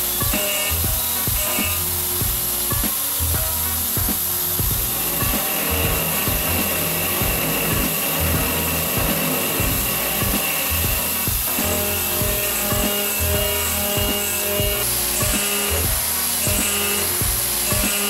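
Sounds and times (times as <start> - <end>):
background music with steady beat: 0.0 - 18.0
router spindle milling metal: 0.0 - 18.0.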